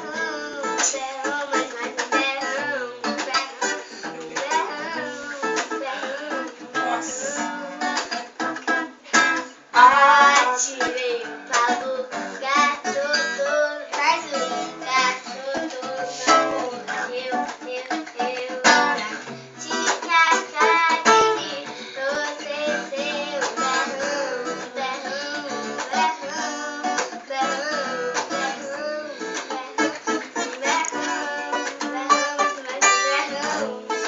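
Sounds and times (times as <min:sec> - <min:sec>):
person singing: 0:00.0 - 0:08.2, 0:09.0 - 0:34.0
acoustic guitar strumming: 0:00.0 - 0:34.0.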